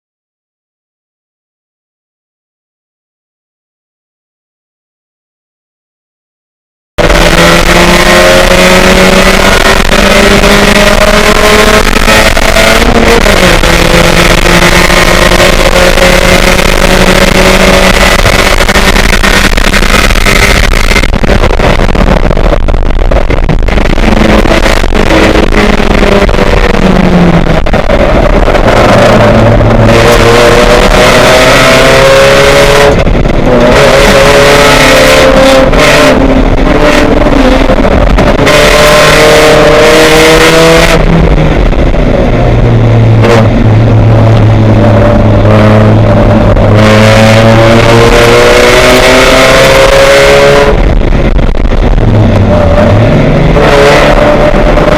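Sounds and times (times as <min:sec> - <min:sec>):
constant rushing noise: 0:07.0 - 0:54.9
race car engine revving: 0:07.0 - 0:54.9.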